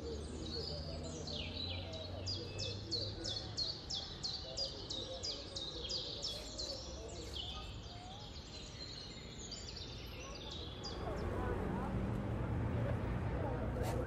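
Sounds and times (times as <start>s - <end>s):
low background murmur: 0.0s - 14.0s.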